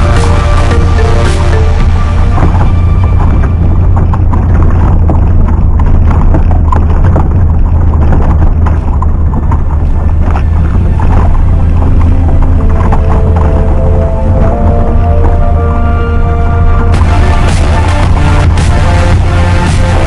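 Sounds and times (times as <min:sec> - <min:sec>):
car engine droning: 0:00.0 - 0:20.0
wind buffeting microphone: 0:00.0 - 0:20.0.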